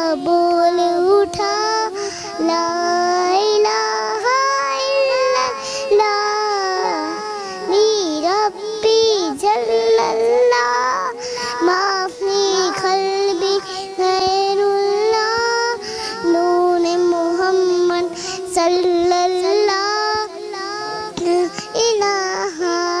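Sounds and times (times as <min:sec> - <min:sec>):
girl singing into a microphone: 0:00.0 - 0:23.0.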